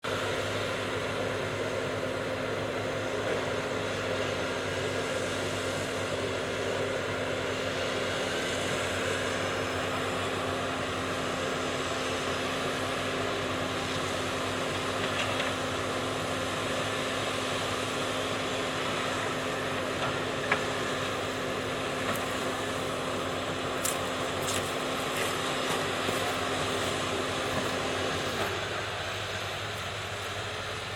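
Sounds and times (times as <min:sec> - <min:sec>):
diesel engine humming: 0:00.0 - 0:30.9.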